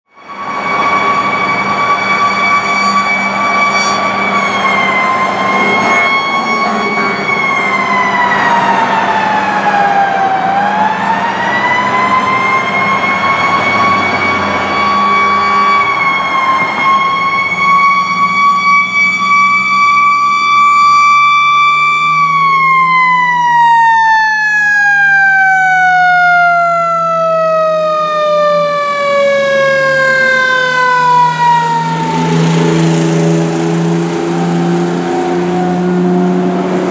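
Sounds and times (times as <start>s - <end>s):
fire engine siren wailing: 0.1s - 36.9s.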